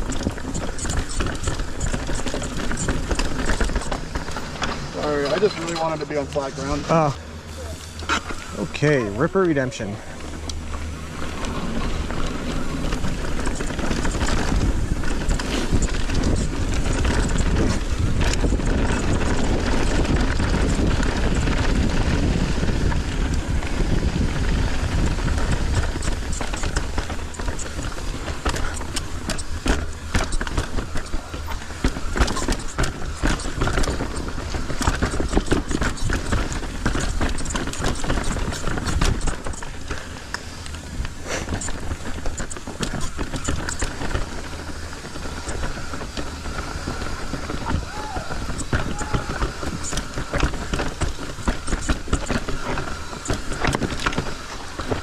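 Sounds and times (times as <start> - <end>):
bike clattering over rocks: 0.0 - 7.1, 10.4 - 55.0
bike tyres rumbling on dirt: 0.0 - 55.0
wind noise: 10.2 - 55.0.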